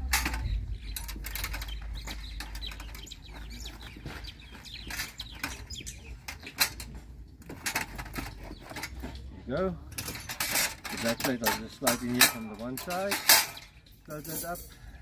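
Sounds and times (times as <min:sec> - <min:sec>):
metal frame clicking and knocking: 0:00.0 - 0:14.8
birds chirping: 0:00.0 - 0:15.0.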